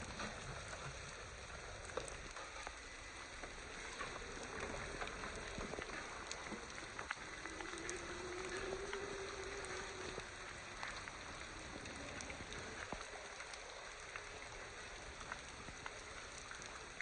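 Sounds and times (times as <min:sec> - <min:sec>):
faint steady hum: 0:00.0 - 0:17.0
raindrops ticking: 0:00.0 - 0:17.0
steady rain falling: 0:00.0 - 0:17.0.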